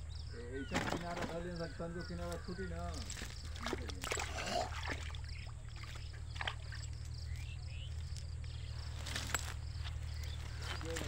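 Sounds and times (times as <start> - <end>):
steady low hum: 0.0 - 0.7, 1.3 - 11.0.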